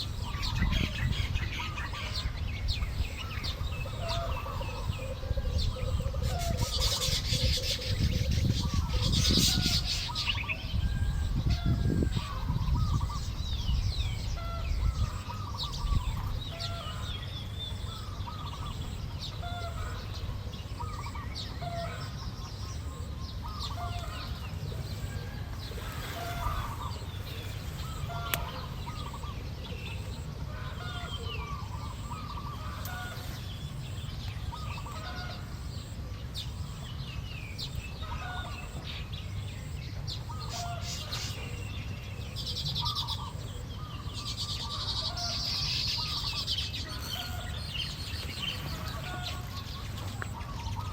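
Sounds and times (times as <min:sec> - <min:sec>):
birds calling: 0:00.0 - 0:50.9.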